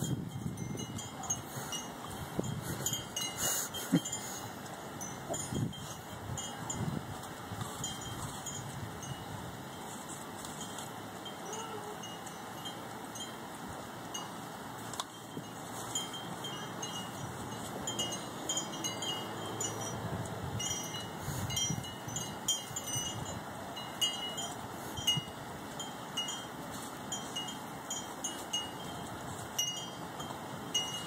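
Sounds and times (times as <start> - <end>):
wind chimes tinkling: 0.0 - 31.0.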